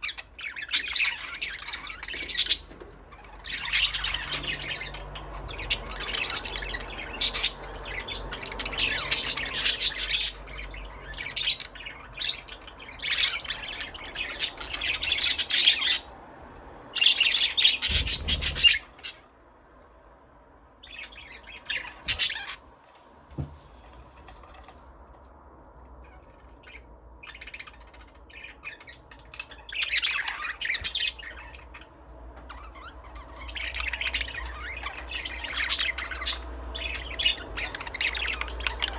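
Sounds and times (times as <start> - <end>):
budgerigars chirping and squawking: 0.0 - 19.5, 20.8 - 24.7, 25.9 - 38.9.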